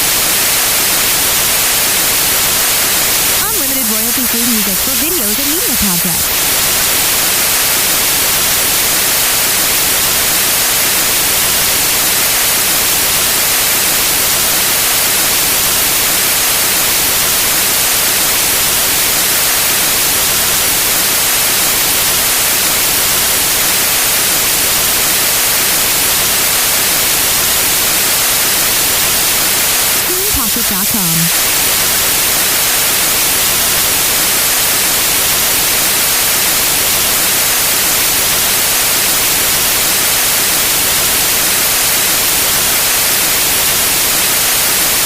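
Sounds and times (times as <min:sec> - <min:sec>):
white noise hiss: 0:00.0 - 0:45.0.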